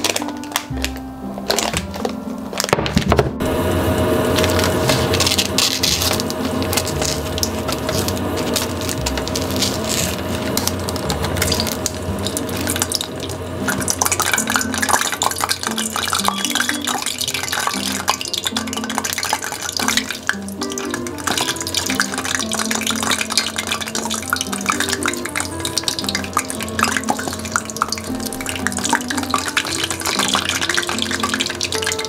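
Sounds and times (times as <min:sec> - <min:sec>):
background music: 0:00.0 - 0:32.0
dough sizzling in oil: 0:03.5 - 0:32.0.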